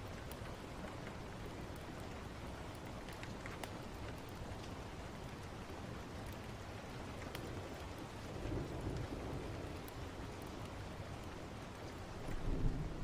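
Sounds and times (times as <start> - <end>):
faint sharp crackles: 0.0 - 13.0
steady rain: 0.0 - 13.0.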